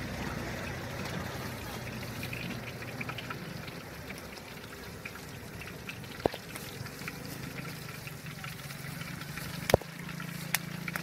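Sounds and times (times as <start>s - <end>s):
snails sizzling in a wok: 0.0s - 11.0s.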